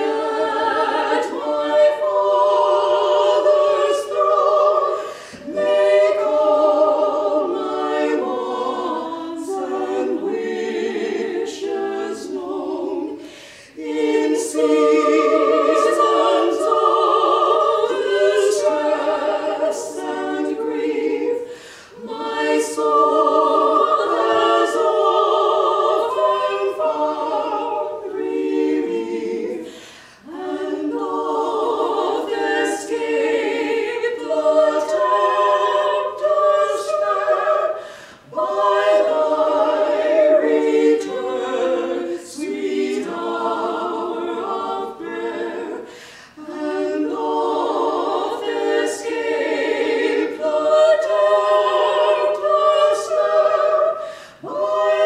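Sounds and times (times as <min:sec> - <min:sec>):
women singing a cappella in harmony: 0:00.0 - 0:55.0.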